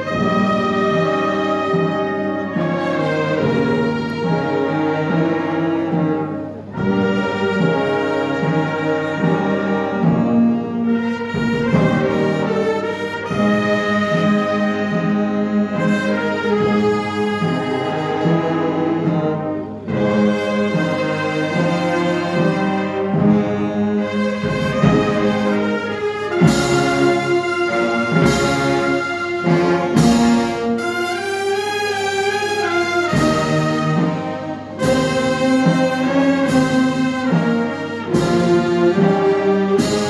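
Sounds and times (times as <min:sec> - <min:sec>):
brass band playing funeral march: 0:00.0 - 0:40.0.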